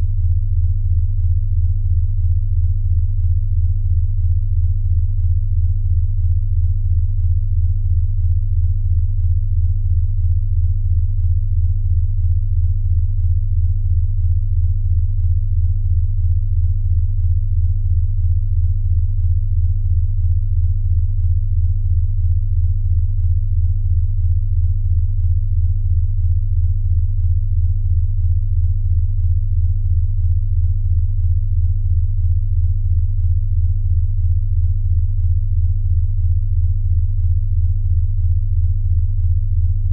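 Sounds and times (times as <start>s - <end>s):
pulsing low electronic tone: 0.0s - 39.9s.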